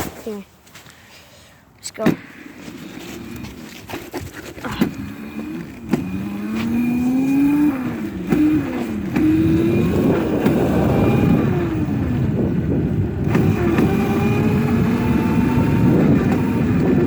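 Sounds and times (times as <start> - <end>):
dirt bike engine accelerating: 2.8 - 17.0.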